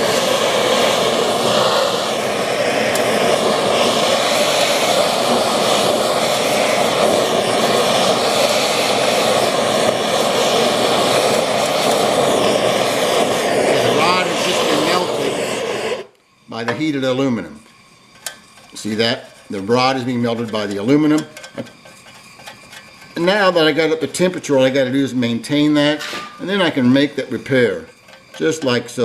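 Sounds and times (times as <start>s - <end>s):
propane torch hissing: 0.0s - 29.0s.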